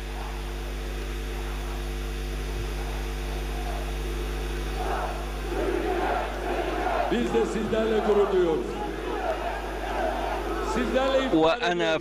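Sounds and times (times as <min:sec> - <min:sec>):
electrical hum: 0:00.0 - 0:11.6
large crowd voices: 0:00.0 - 0:12.0
buzzing tones: 0:01.4 - 0:11.4.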